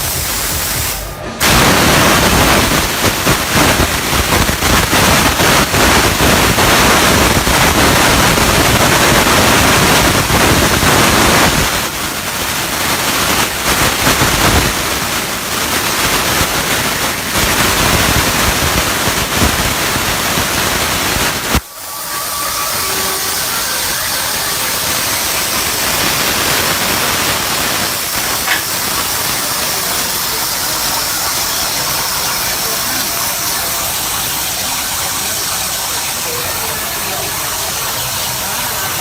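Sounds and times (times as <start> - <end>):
plasma torch cutting steel: 0.0 - 39.0.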